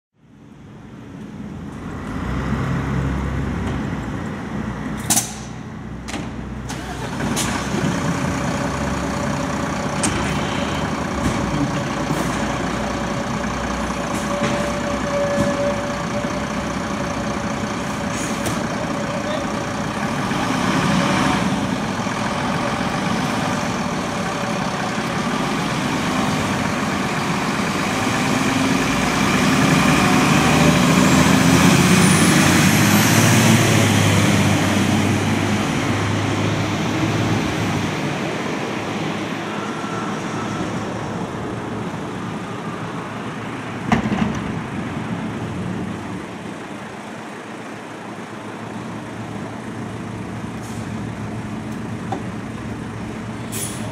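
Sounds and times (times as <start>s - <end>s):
heavy vehicle driving past: 6.7s - 51.6s.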